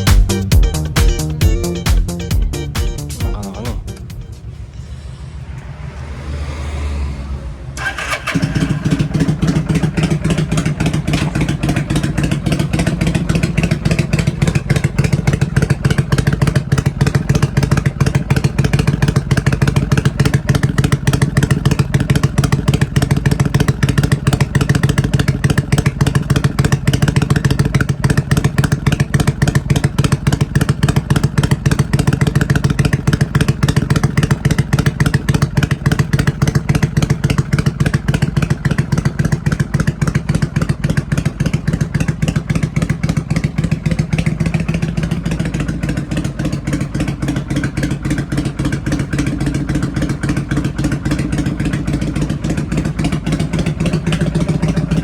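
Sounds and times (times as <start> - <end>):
motorcycle engine starting and idling: 0.0 - 55.0.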